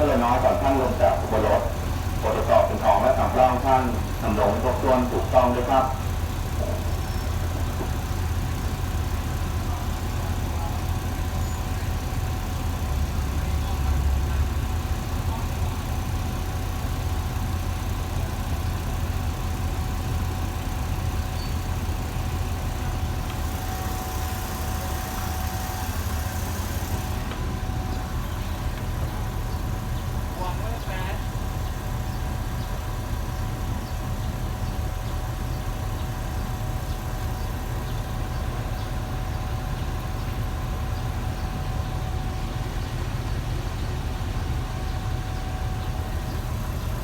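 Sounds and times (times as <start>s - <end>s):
diesel train engine idling: 0.0s - 47.0s
faint constant whine: 0.0s - 47.0s.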